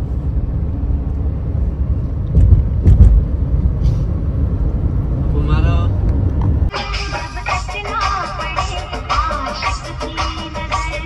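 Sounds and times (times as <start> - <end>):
road and engine rumble in car cabin: 0.0 - 11.0.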